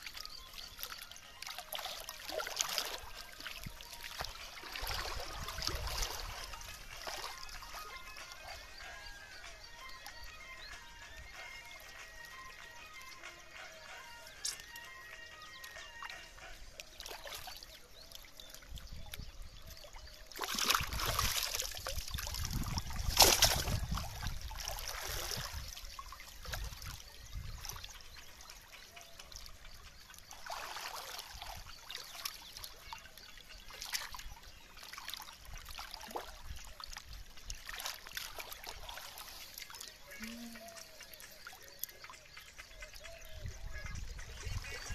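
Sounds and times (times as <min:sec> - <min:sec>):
water splashing and trickling: 0:00.0 - 0:44.9.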